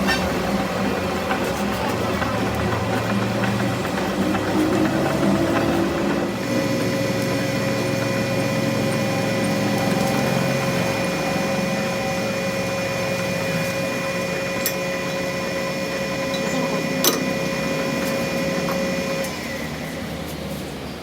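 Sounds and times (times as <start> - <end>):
workshop machine whining: 0.0 - 21.0.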